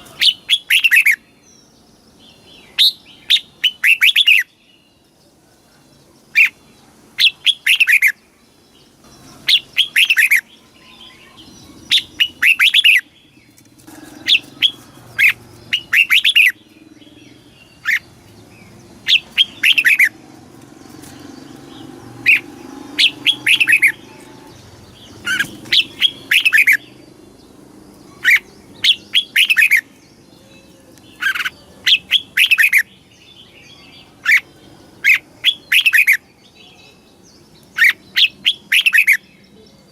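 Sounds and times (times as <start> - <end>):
bird singing downward-slurred notes: 7.2 - 39.9.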